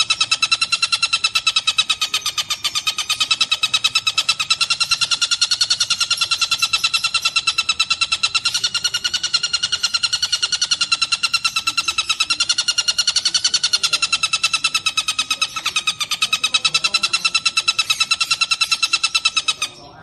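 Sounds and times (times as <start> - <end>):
kingfisher calling rapid sharp notes: 0.0 - 20.0.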